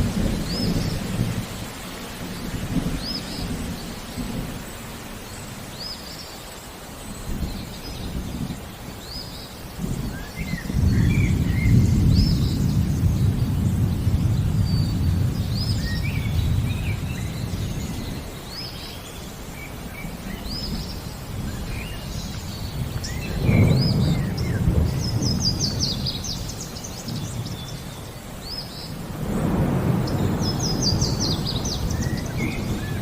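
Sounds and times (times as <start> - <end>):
thunder rumbling: 0.0 - 4.8, 9.8 - 18.6, 19.8 - 33.0
birds chirping: 0.0 - 33.0
faint rain hiss: 0.0 - 33.0.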